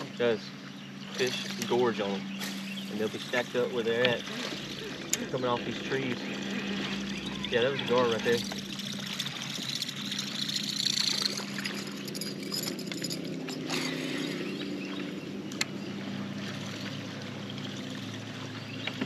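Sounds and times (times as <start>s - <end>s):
boat motor humming: 0.0s - 19.0s
water splashing around hull: 0.0s - 19.0s.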